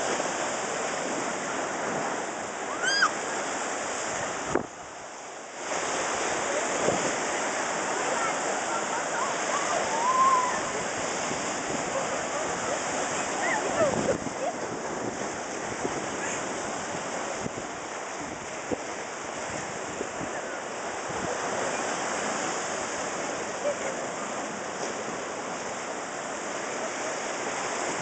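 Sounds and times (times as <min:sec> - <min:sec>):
surf breaking against seawall: 0:00.0 - 0:28.0.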